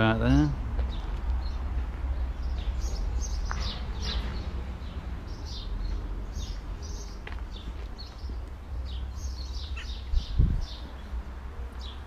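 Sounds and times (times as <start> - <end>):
steady low rumble: 0.0 - 11.9
small birds chirping: 0.0 - 12.0.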